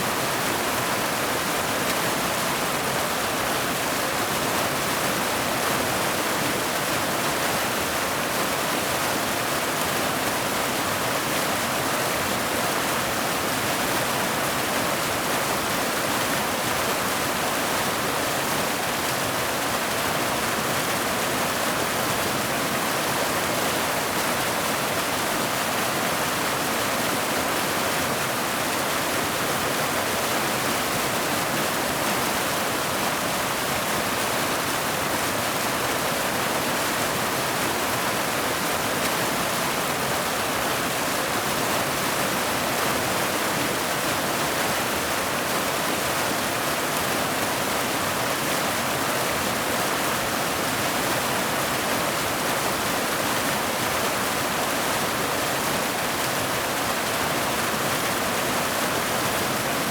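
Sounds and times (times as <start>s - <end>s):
waterfall rushing over boulders: 0.0s - 59.9s.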